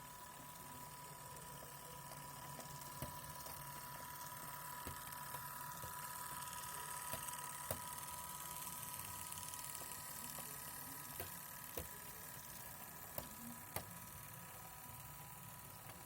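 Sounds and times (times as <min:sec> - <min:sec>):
model train motor whine: 0:00.0 - 0:16.0.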